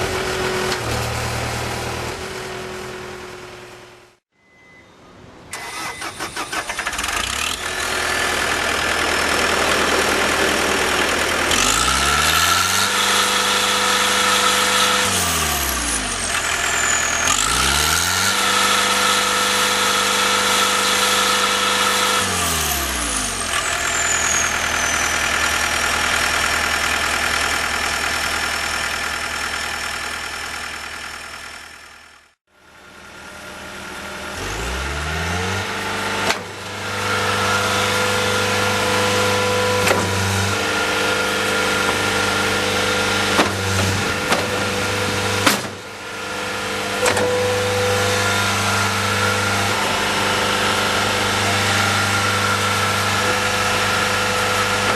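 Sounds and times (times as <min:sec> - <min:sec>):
diesel engine starting and idling: 0:00.0 - 0:04.2, 0:05.4 - 0:54.9.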